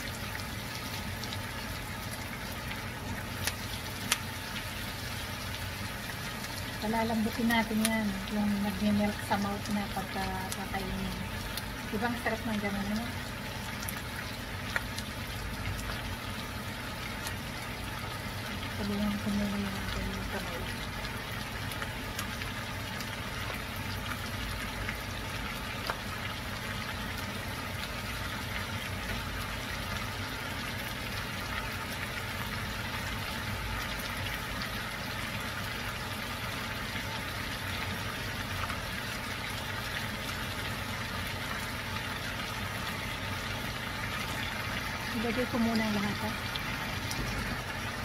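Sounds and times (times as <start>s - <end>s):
low steady hum: 0.0s - 48.0s
meat and onion sizzling in a wok: 0.0s - 48.0s.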